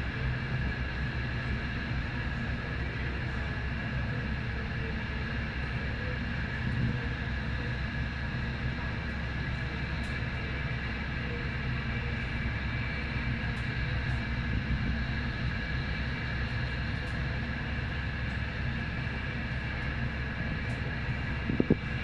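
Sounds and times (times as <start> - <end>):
aircraft turbine engines running: 0.0 - 22.0.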